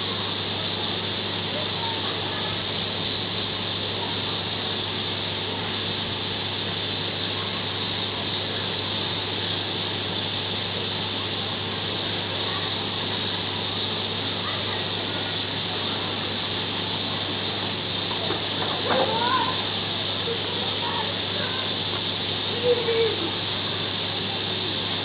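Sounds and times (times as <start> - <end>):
low even hum: 0.0 - 25.0.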